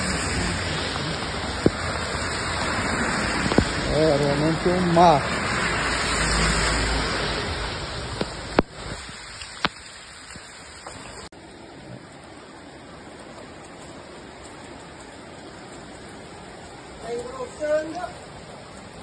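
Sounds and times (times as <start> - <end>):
floodwater rushing down street: 0.0 - 19.0
heavy rain: 0.0 - 19.0.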